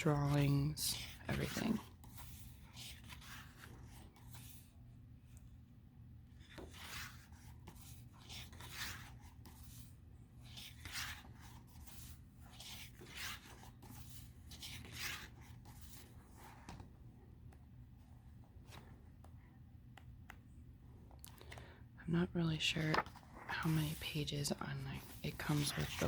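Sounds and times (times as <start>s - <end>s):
book pages turning: 0.0s - 5.6s, 6.3s - 21.8s, 22.5s - 26.0s.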